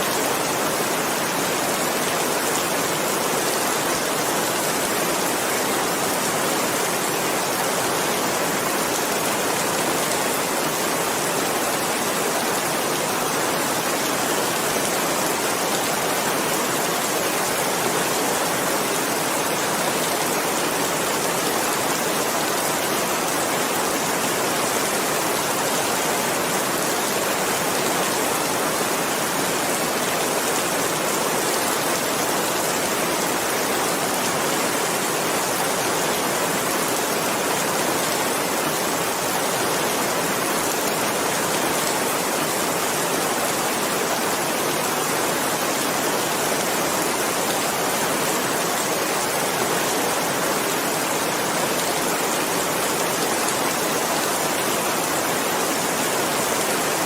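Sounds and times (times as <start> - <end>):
dense rainfall: 0.0 - 57.0.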